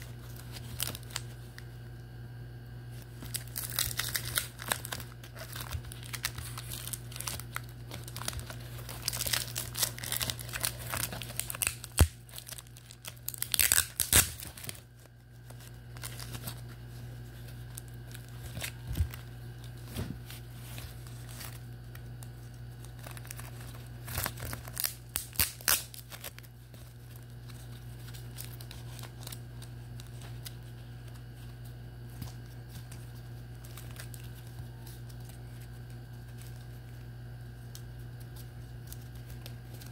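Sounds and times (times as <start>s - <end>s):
plastic wrapping crinkling: 0.0s - 2.0s, 2.8s - 39.9s.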